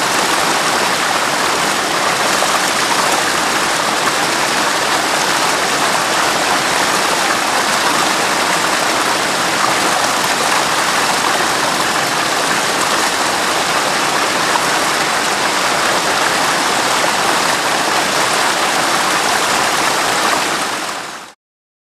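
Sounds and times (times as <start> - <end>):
water rushing: 0.0 - 21.4.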